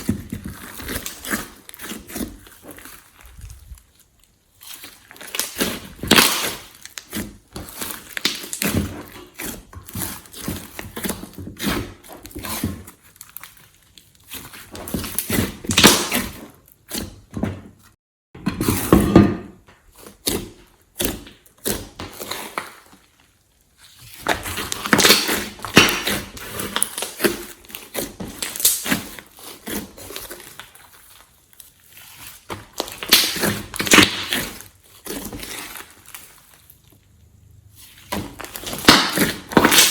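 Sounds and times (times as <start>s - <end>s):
slime squelching by hand: 0.0s - 17.3s, 19.9s - 39.9s.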